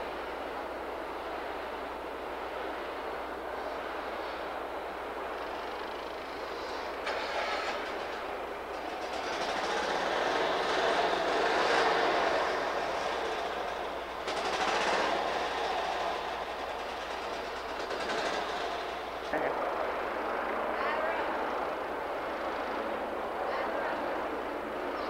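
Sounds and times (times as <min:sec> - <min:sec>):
passing vehicle rolling: 0:00.0 - 0:25.0.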